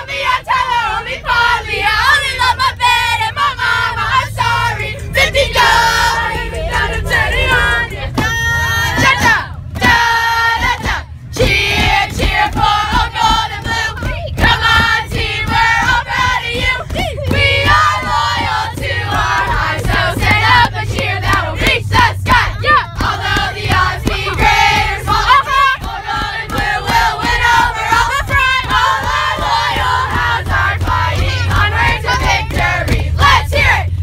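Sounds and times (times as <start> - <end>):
bus engine rumble: 0.0 - 34.0
girls singing and shouting along: 0.0 - 34.0.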